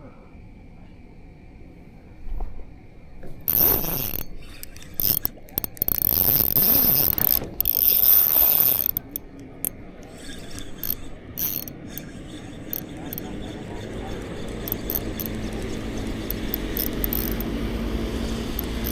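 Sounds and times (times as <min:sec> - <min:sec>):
fishing reel clicking and whirring: 0:03.4 - 0:18.9.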